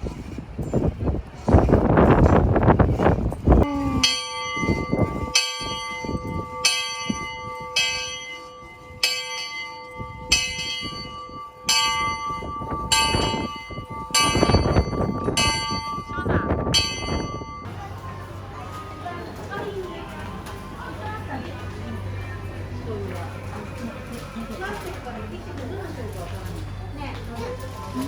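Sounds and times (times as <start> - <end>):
large bell ringing: 3.6 - 28.0.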